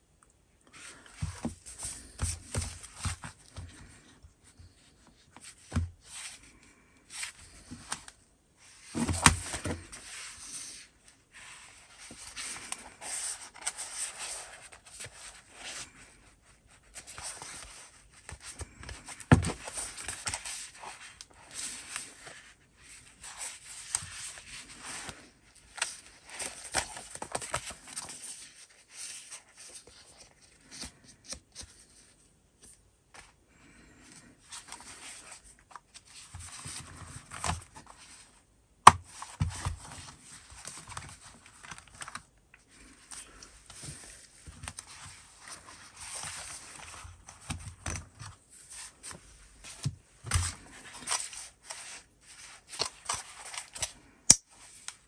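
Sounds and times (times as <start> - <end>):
notebook handling rustle: 0.7 - 55.0.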